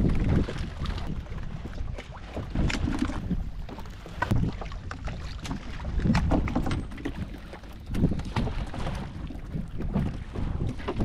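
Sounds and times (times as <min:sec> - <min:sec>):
light knocks and splashes: 0:00.0 - 0:11.0
water sloshing against boat hull: 0:00.0 - 0:11.0
wind buffeting microphone: 0:00.0 - 0:11.0.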